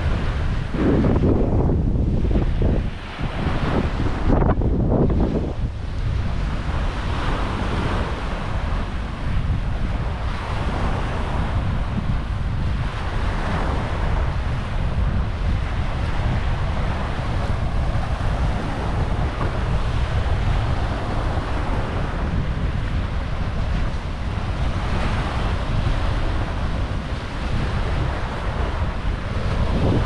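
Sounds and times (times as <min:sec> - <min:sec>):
surf washing on beach: 0:00.0 - 0:30.0
wind buffeting microphone: 0:00.0 - 0:30.0.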